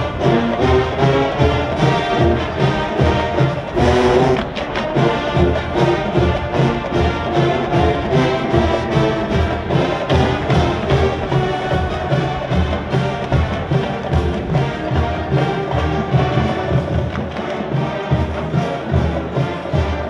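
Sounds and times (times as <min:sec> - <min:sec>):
marching band playing: 0:00.0 - 0:20.0
steady drum beat: 0:00.0 - 0:20.0.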